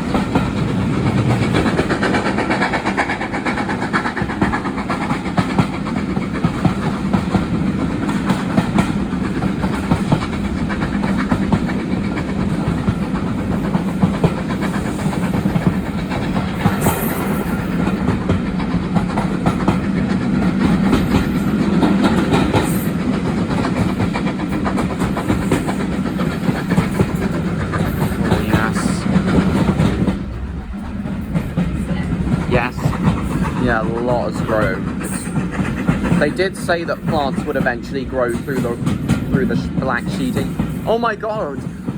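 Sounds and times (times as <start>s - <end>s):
train wheels rumbling on rails: 0.0s - 41.9s
wheels clicking over rail joints: 0.0s - 41.9s.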